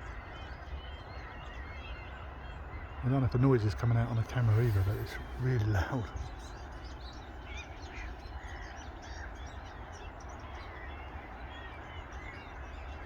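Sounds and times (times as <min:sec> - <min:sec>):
flock of birds calling: 0:00.0 - 0:13.0.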